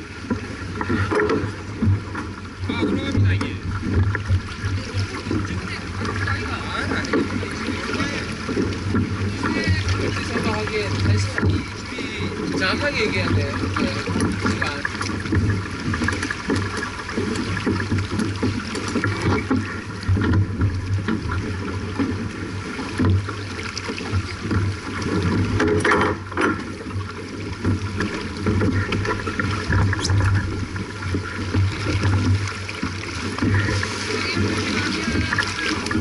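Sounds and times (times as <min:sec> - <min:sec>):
water rushing along a hull: 0:00.0 - 0:36.0.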